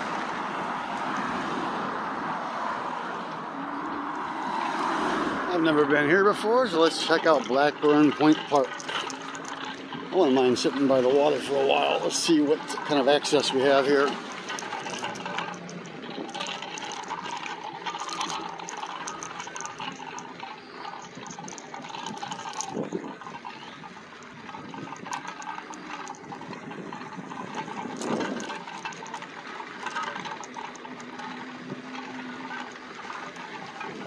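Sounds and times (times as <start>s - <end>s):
water lapping at shoreline: 3.6s - 34.0s.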